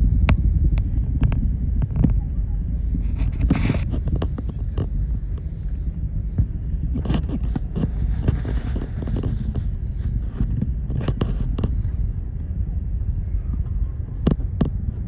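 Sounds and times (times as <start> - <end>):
distant rocket launch rumble: 0.0 - 15.0
sharp irregular crackles: 0.2 - 12.2.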